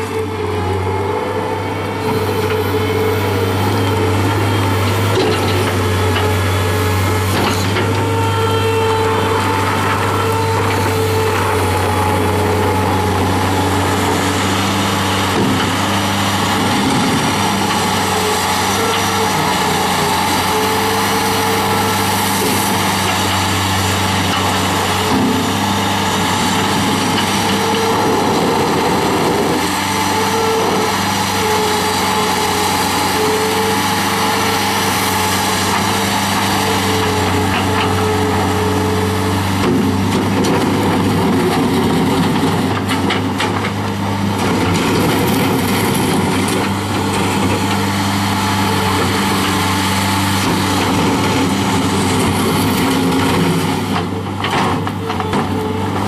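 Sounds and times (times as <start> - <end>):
diesel loader engine running: 0.0 - 56.0.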